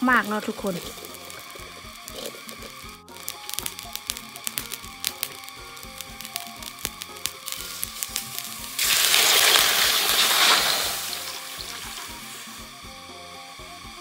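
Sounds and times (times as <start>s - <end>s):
sharp crackles: 0.0s - 12.9s
water sizzling in hot wok: 0.0s - 14.0s.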